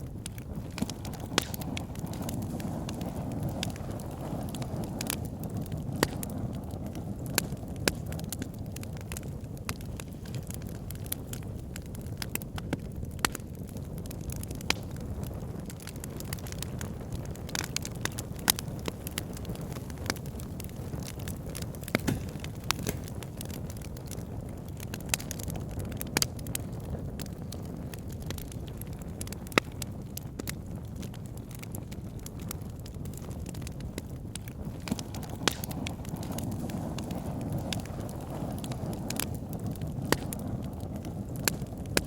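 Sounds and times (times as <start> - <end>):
low rumble of flames: 0.0 - 42.0
wood crackling and popping: 0.0 - 42.0.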